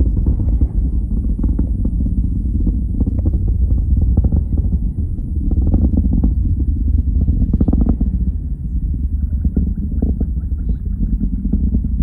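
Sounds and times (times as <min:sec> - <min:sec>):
rocket engine deep rumble: 0:00.0 - 0:12.0.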